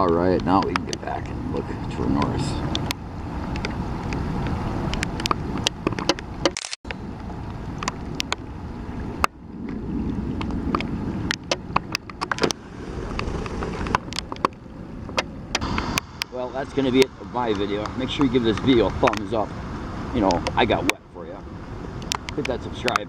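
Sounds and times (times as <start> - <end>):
raindrops ticking on camera: 0.0 - 19.4, 21.9 - 23.0
wind buffeting microphone: 0.0 - 23.0.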